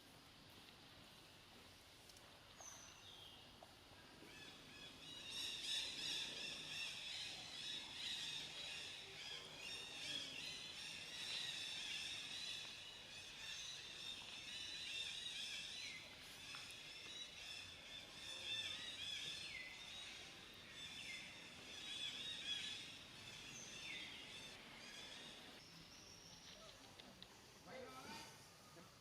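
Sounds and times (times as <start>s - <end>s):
faint outdoor background: 0.0s - 29.0s.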